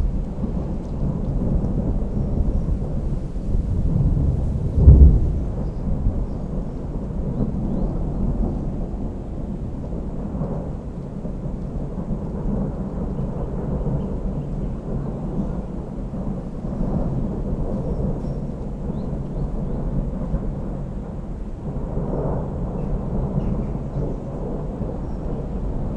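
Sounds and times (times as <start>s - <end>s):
thunder rumbling: 0.0s - 25.9s.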